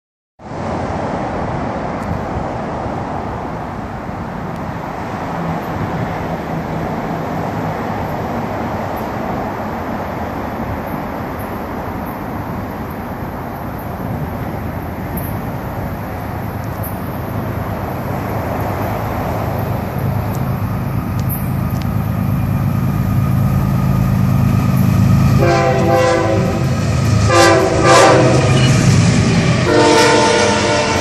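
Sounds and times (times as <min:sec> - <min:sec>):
road traffic noise: 0:00.4 - 0:31.0
diesel locomotive rumble: 0:00.5 - 0:31.0.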